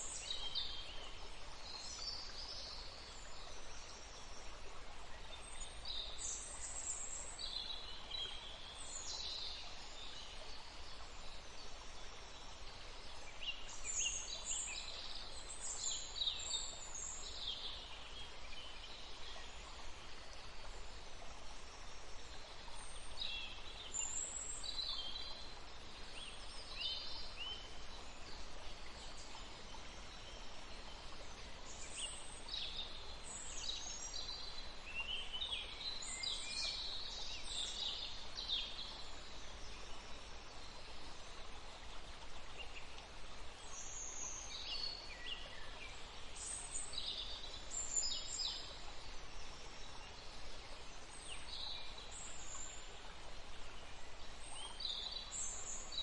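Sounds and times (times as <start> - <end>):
water flowing: 0.0 - 56.0.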